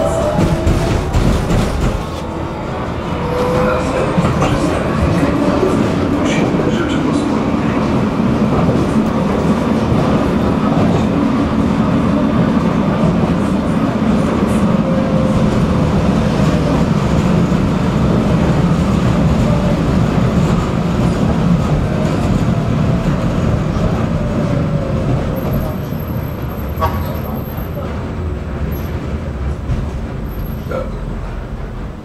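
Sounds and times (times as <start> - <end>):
tram wheels rumbling on rails: 0.0 - 32.0.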